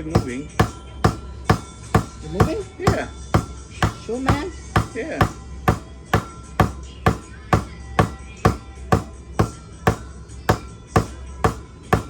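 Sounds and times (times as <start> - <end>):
hammer striking wooden block: 0.0 - 12.0.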